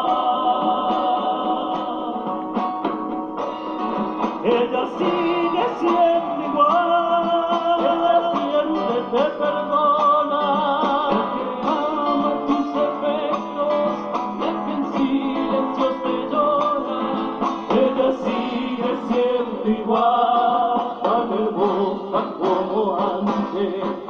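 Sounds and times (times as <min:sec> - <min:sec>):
man singing into a microphone: 0:00.0 - 0:02.4, 0:04.4 - 0:24.0
acoustic guitars strummed and plucked: 0:00.0 - 0:24.0.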